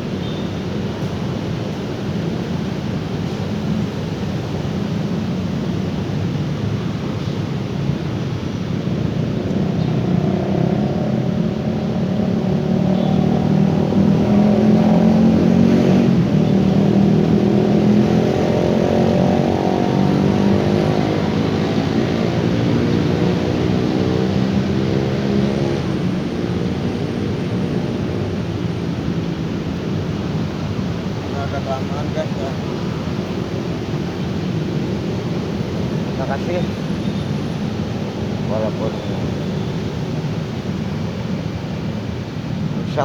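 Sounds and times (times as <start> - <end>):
passing vehicle engine hum: 8.3 - 43.0.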